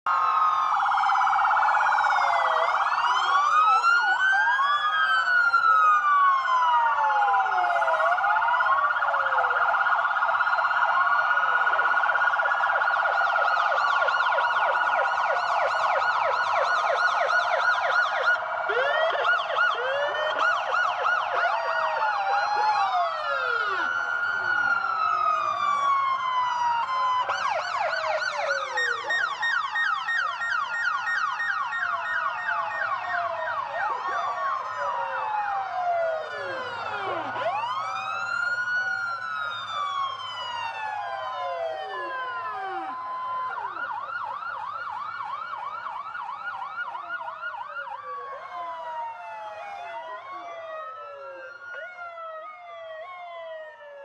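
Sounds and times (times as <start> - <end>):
police siren wails: 0.0 - 54.0
siren yelps: 0.1 - 54.0
steady high siren tone: 0.1 - 54.0.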